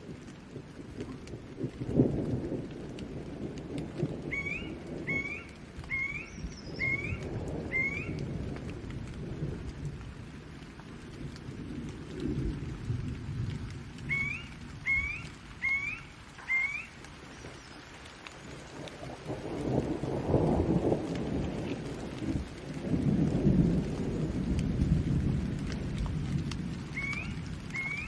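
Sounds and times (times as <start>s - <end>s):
rolling thunder: 0.0s - 16.0s, 18.5s - 28.0s
rain falling: 0.0s - 28.0s.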